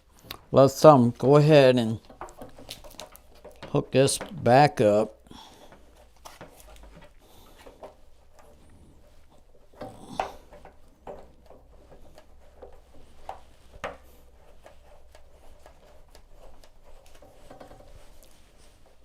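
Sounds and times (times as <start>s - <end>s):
tools knocking and clicking on pipes: 1.0s - 4.9s, 5.6s - 18.5s.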